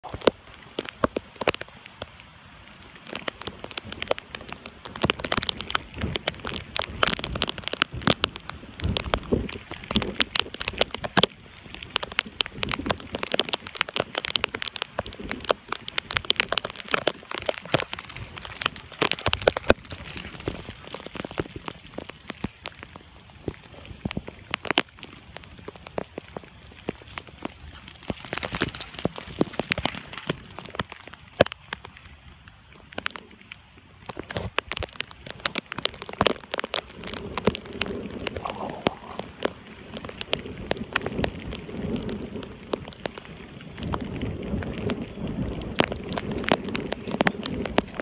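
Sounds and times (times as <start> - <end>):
rain hissing and tapping: 0.0 - 48.0.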